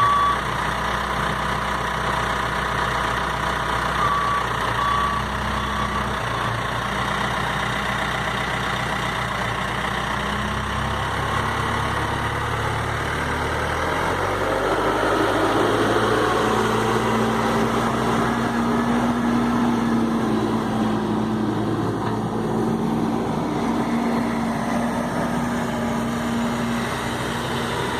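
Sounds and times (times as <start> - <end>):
diesel engine running: 0.0 - 27.9.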